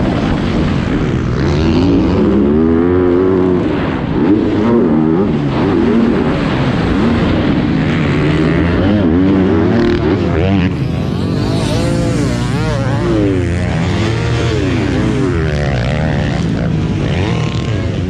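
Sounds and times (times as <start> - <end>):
motorcycle engine revving hard: 0.0 - 18.0.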